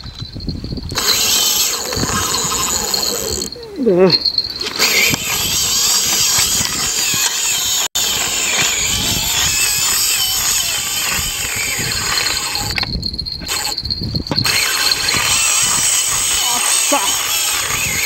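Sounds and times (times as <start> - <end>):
fishing reel drag running: 0.9 - 3.6, 4.2 - 18.0.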